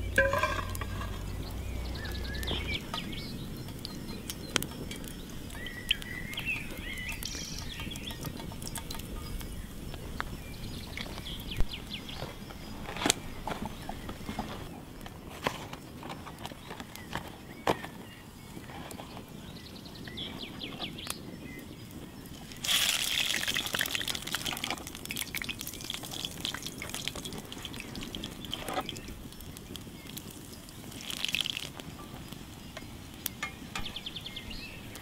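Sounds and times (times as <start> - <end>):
birds chirping: 0.0 - 14.8, 15.8 - 35.0
wood fire crackling: 0.0 - 35.0.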